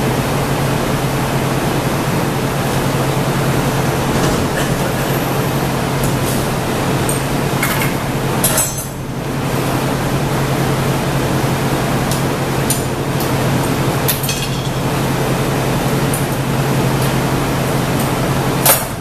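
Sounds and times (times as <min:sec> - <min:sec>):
fans and equipment roaring: 0:00.0 - 0:19.0.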